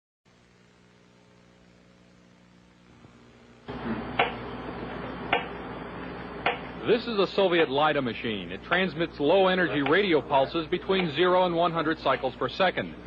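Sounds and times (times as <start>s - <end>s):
faint electrical hum: 0.3s - 13.0s.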